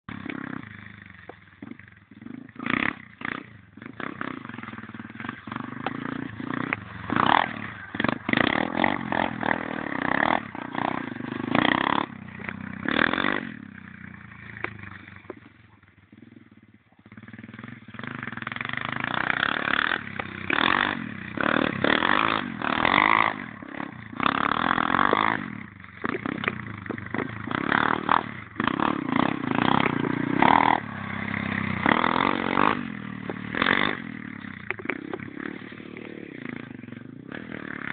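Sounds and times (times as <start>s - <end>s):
pit bike engine revving: 0.1s - 37.9s.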